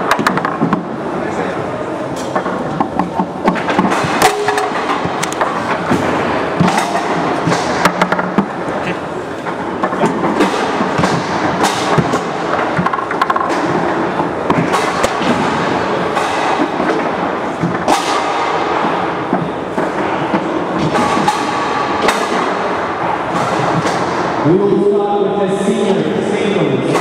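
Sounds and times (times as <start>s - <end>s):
foosball ball knocks and clacks: 0.0s - 1.0s, 2.2s - 8.6s, 9.4s - 24.4s
foosball rods banging: 0.0s - 1.1s, 2.1s - 24.6s
background din: 2.1s - 24.5s.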